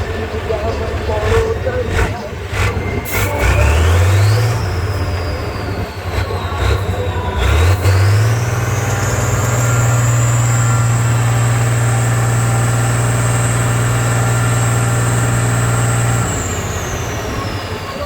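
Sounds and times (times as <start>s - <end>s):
high whine: 0.0s - 18.0s
truck engine revving: 0.0s - 18.0s.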